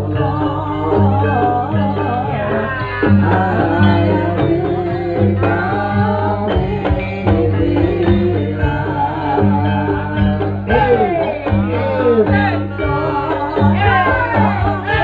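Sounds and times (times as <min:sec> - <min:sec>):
drum strokes: 0:00.0 - 0:15.0
person singing wavering melody: 0:00.0 - 0:15.0.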